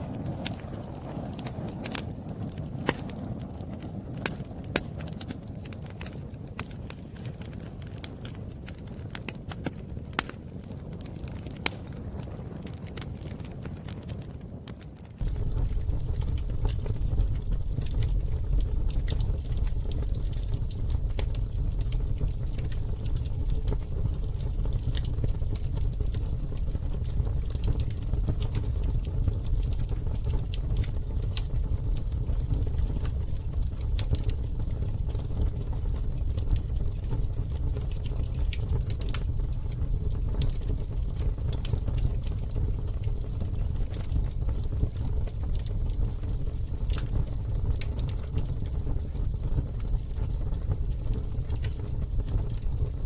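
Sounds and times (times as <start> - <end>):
campfire crackling: 0.0 - 53.0
low rumble of fire: 0.0 - 53.0.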